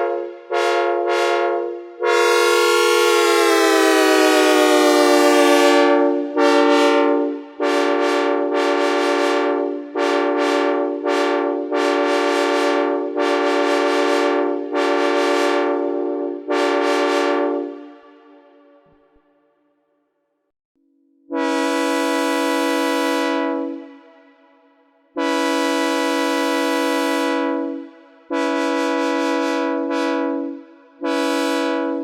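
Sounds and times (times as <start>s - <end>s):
locomotive air horn blasts: 0.0s - 18.8s, 21.3s - 24.6s, 25.2s - 32.0s.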